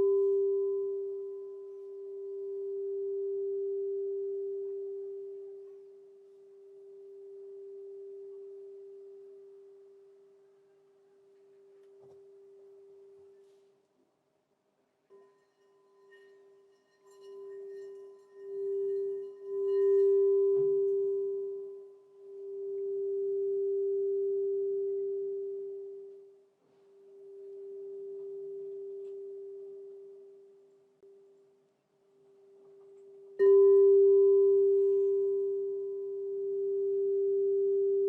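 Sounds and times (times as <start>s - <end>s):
singing bowl tone: 0.0s - 13.6s, 15.1s - 31.6s, 32.2s - 38.0s.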